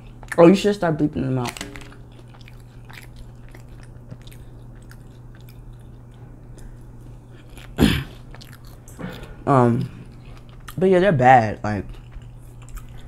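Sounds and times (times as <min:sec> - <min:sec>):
close chewing and biting: 0:00.0 - 0:00.5, 0:01.9 - 0:13.0.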